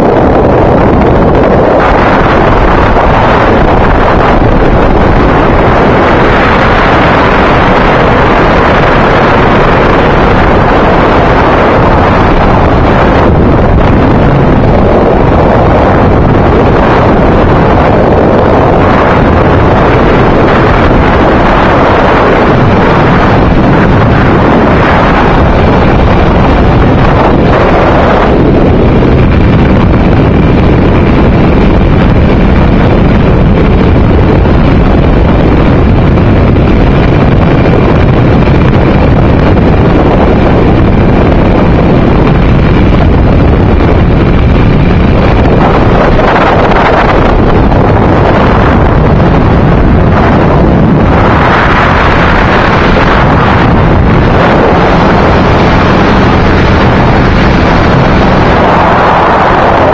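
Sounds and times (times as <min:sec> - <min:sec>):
aircraft engine running: 0:00.0 - 0:59.9
wind buffeting microphone: 0:00.0 - 0:59.9.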